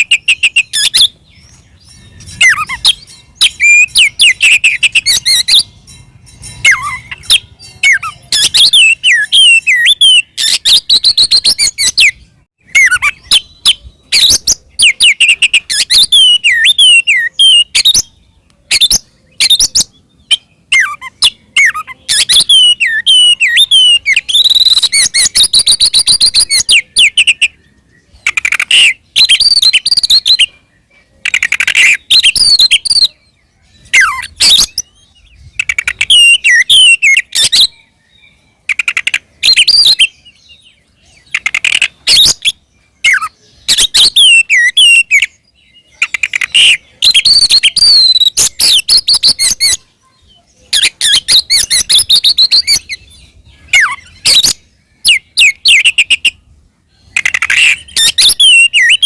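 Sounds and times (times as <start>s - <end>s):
songbird singing loudly: 0.0s - 59.0s.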